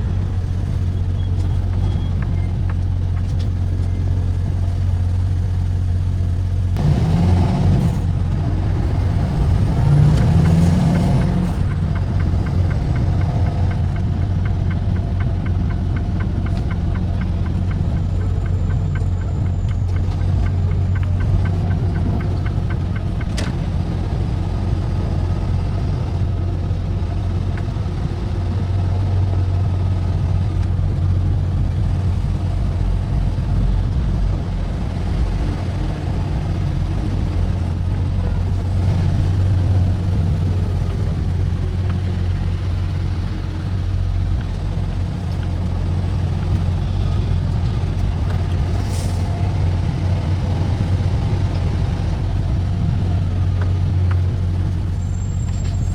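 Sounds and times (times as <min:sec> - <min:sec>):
truck engine and road drone: 0:00.0 - 0:55.9.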